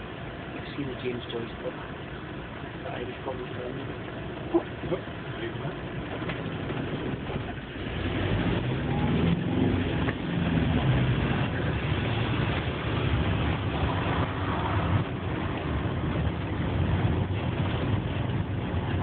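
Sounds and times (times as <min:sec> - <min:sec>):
motorhome engine: 0:00.0 - 0:19.0
road noise: 0:00.0 - 0:19.0.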